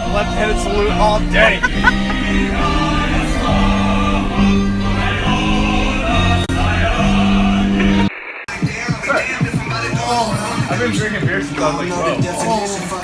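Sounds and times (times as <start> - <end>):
song with singing: 0.0 - 13.0.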